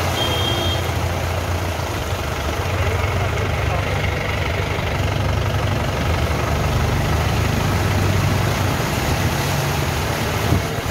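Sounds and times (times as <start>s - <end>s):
tyres swishing through water: 0.0s - 10.9s
vehicle engine running: 0.0s - 10.9s.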